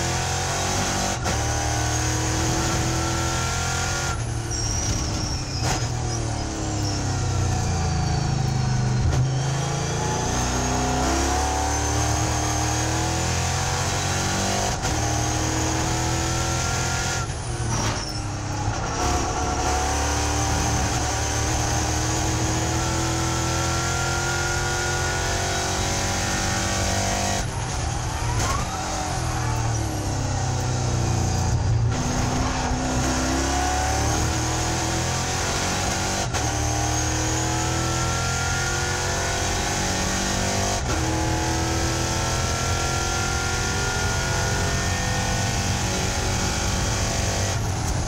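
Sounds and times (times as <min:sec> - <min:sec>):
race car engine at speed: 0:00.0 - 0:48.0.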